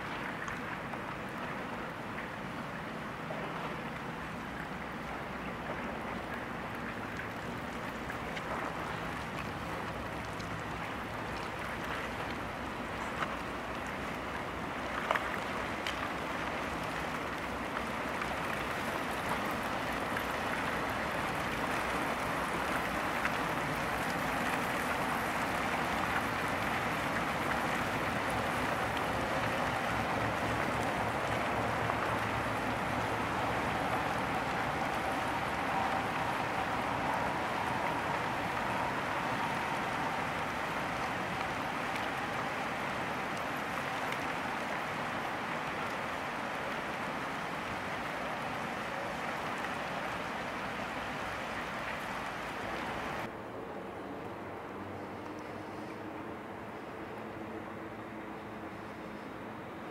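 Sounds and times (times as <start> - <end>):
ship churning through icy water: 0.0 - 53.4.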